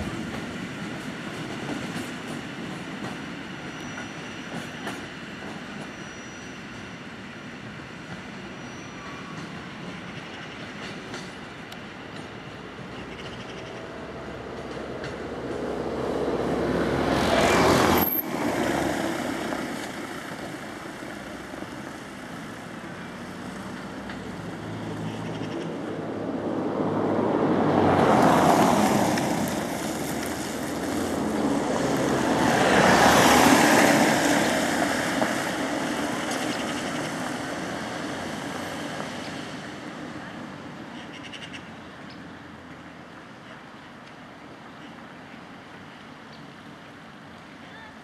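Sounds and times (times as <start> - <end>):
background traffic rush: 0.0 - 48.0
vehicles passing: 9.3 - 48.0.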